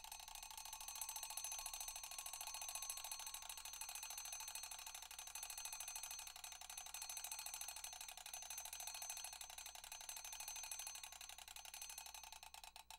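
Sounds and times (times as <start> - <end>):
rapid mechanical clicks: 0.0 - 12.9.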